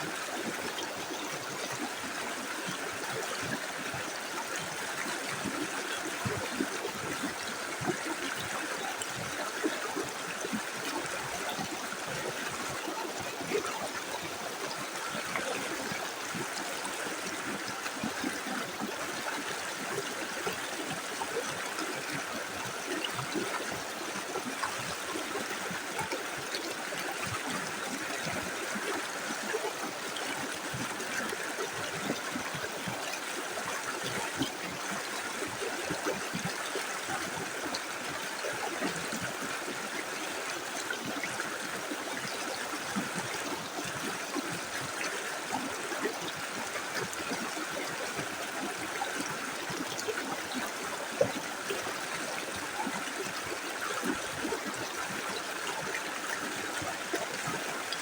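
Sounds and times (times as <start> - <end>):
river flowing over stones: 0.0 - 58.0
water splashing and gurgling: 0.1 - 58.0.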